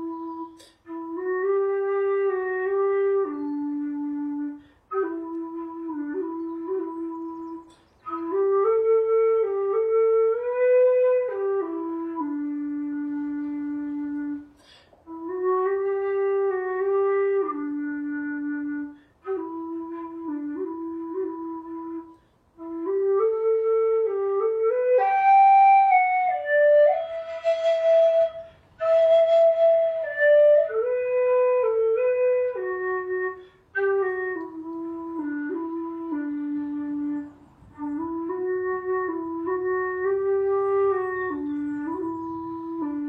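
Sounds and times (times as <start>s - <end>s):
whistle melody: 0.0s - 10.6s, 11.2s - 43.0s.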